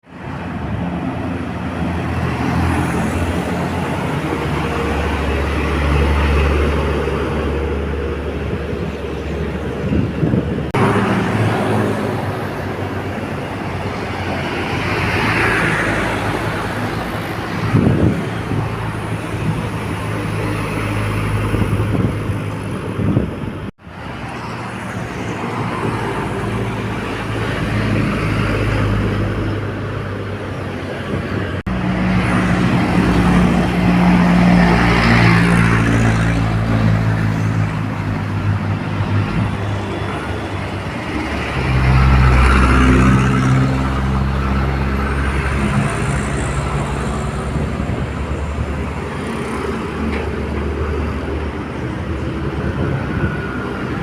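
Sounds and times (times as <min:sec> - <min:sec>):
traffic noise: 0:00.0 - 0:54.0
truck engine hum: 0:00.0 - 0:54.0.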